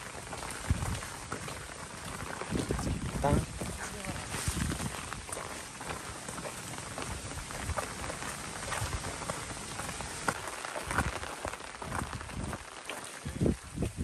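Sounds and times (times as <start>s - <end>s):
rain falling: 0.0s - 14.0s
raindrop taps: 0.0s - 14.0s.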